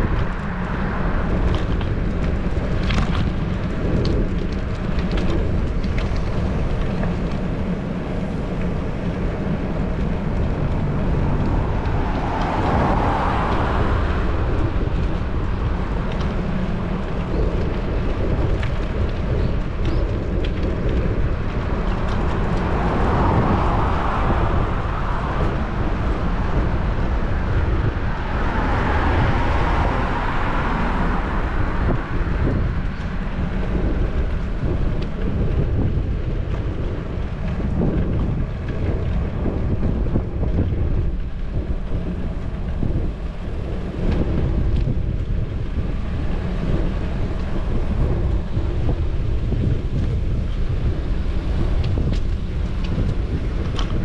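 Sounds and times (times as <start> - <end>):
passing car tyre noise: 0.0 - 54.0
wind rumble on microphone: 0.0 - 54.0.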